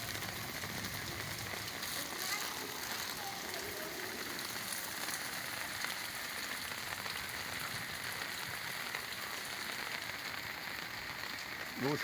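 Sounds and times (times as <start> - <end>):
rain on hard surfaces: 0.0 - 12.0.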